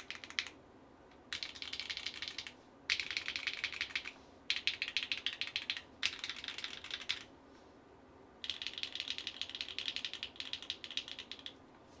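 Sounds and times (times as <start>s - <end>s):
fast typing on mechanical keyboard: 0.0s - 0.6s, 1.3s - 7.3s, 8.4s - 11.6s.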